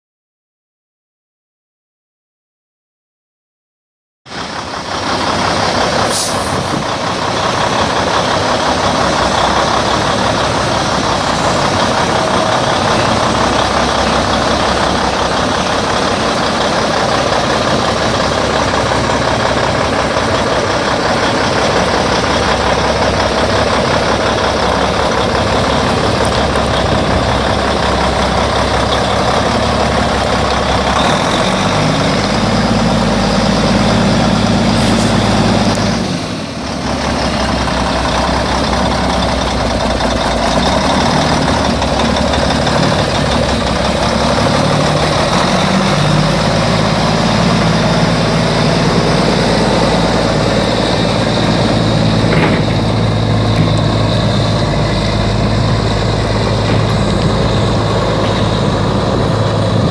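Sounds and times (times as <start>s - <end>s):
diesel truck engine idling: 4.3s - 59.9s.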